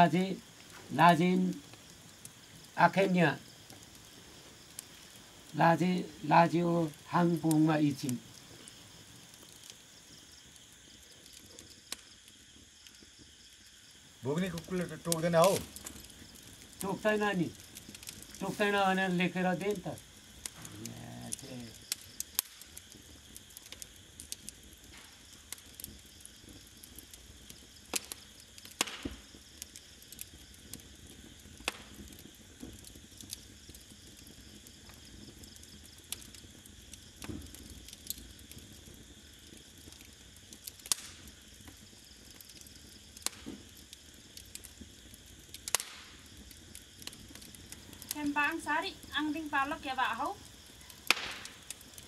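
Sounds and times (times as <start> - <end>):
crickets chirring: 0.0 - 52.0
wood fire crackling and popping: 0.0 - 52.0.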